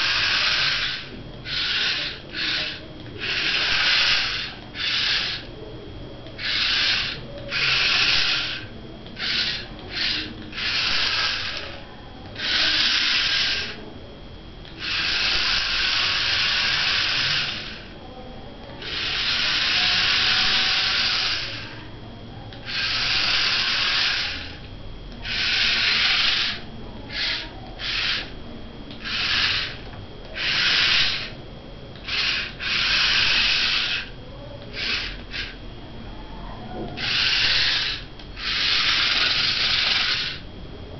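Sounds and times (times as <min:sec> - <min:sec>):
small gear motors whirring: 0:00.0 - 0:13.9, 0:14.6 - 0:21.9, 0:22.5 - 0:35.6, 0:36.7 - 0:40.6.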